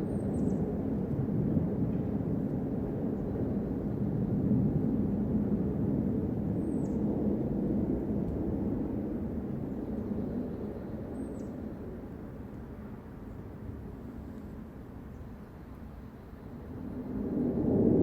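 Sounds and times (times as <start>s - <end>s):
deep rumble from the sky: 0.0s - 18.0s.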